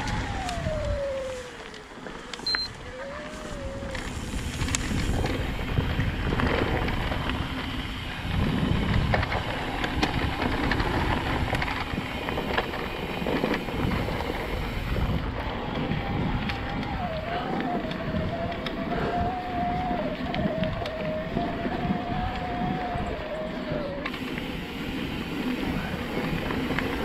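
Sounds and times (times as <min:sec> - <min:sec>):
bike clicks and rattles: 0:00.0 - 0:27.0
tyres rolling over dirt: 0:00.0 - 0:27.0
wind buffeting microphone: 0:00.0 - 0:27.0.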